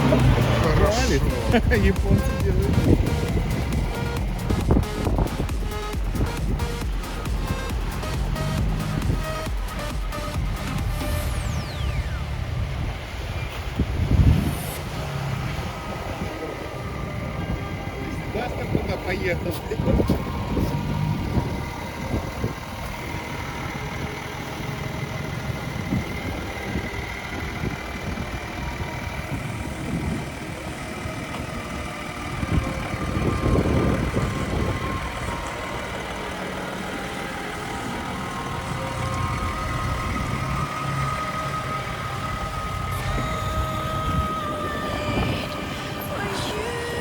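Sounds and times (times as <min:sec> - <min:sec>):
car engine driving over rough terrain: 0:00.0 - 0:47.0.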